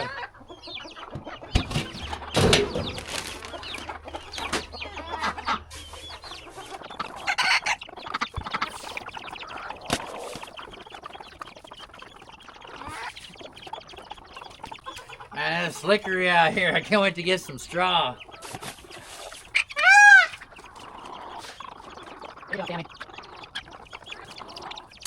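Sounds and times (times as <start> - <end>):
chicken squawks: 0.0 - 25.0
chickens clucking: 0.0 - 25.0.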